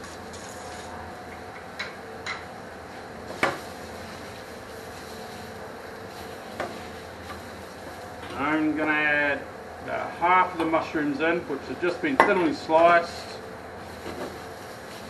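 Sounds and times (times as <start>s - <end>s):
kitchen hum: 0.0s - 15.0s.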